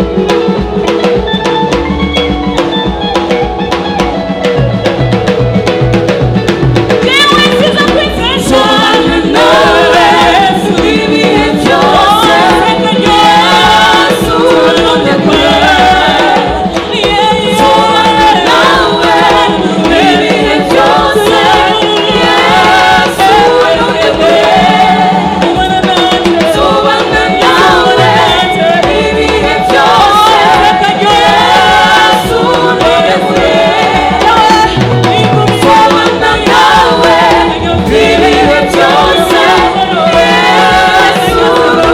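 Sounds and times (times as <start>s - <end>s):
drum beat: 0.0s - 41.9s
voices singing together: 0.0s - 41.9s.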